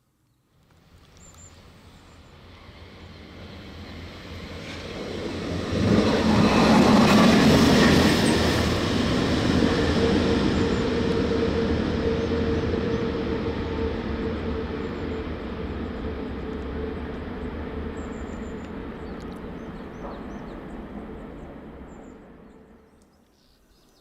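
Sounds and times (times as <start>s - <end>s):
train passing: 0.7s - 23.2s.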